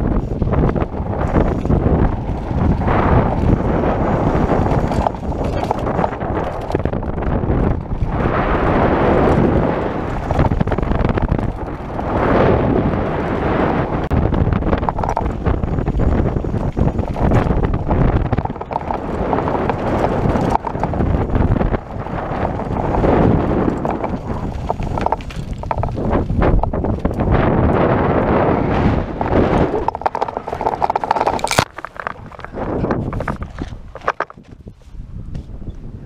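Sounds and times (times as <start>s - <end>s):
bike rattling and knocking: 0.0s - 27.8s, 29.3s - 34.8s
tyres rumbling on dirt trail: 0.0s - 35.0s
wind buffeting microphone: 0.0s - 36.0s.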